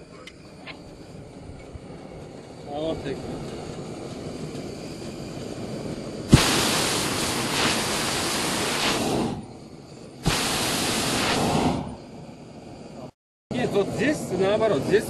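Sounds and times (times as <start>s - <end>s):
propane burner roaring: 0.0s - 15.0s.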